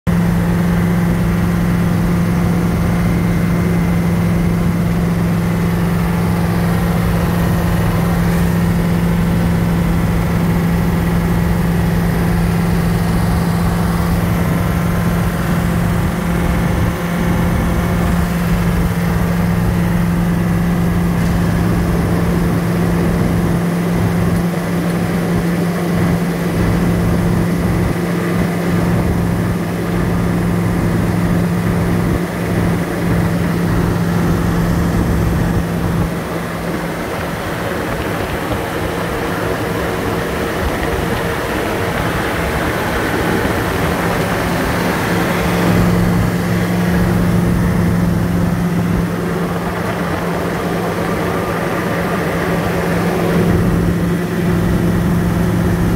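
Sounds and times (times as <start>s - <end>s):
vehicle engine and tyres droning: 0.1s - 55.9s.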